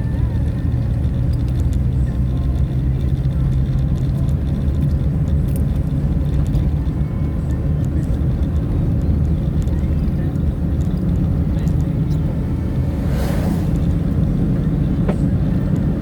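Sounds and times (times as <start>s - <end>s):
road noise: 0.0s - 16.0s
vehicle engine drone: 0.0s - 16.0s.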